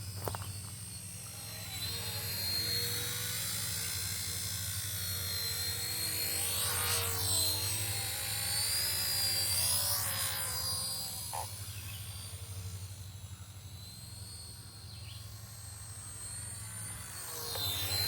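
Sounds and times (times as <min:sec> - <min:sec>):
model helicopter rotor whine: 0:00.0 - 0:18.0.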